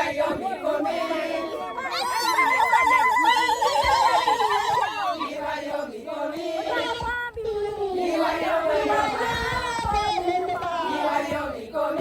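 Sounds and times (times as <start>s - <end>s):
crowd singing: 0.0s - 12.0s.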